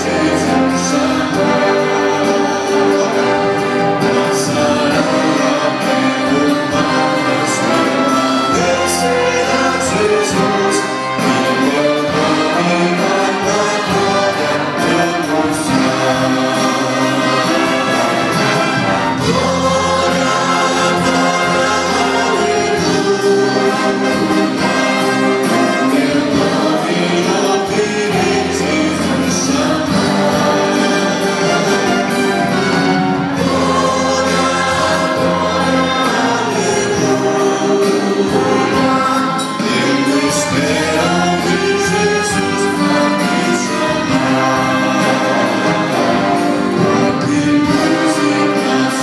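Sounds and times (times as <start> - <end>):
choir singing a hymn: 0.0 - 49.0
orchestra accompanying: 0.0 - 49.0.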